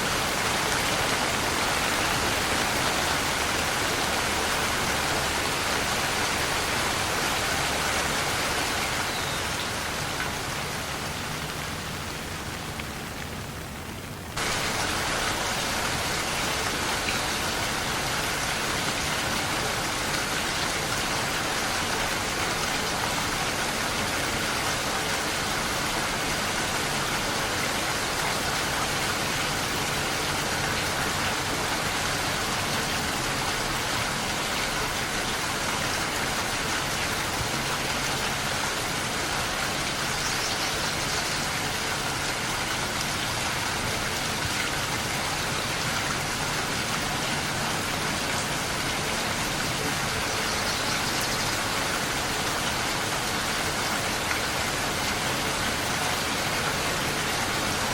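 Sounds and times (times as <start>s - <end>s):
dense rain hissing: 0.0s - 57.9s.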